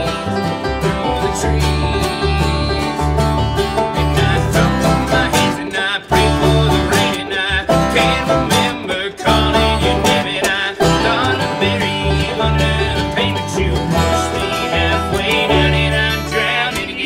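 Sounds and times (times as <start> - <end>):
bluegrass band playing: 0.0 - 17.0.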